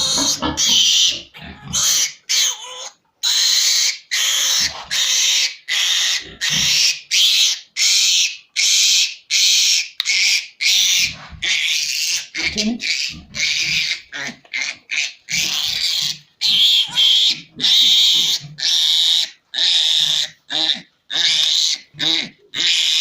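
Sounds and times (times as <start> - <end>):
piglet squealing: 0.0 - 23.0.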